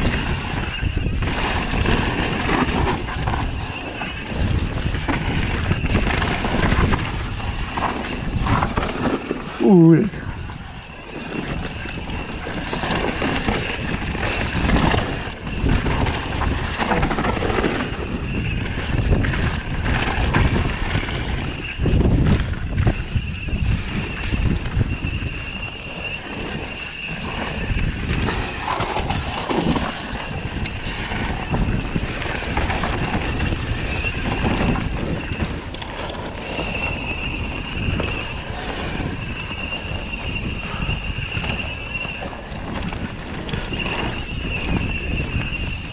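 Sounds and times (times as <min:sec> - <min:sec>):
bike tyres rolling on dirt: 0:00.0 - 0:45.9
thin high whine: 0:00.0 - 0:45.9
wind rumble on microphone: 0:00.0 - 0:45.9.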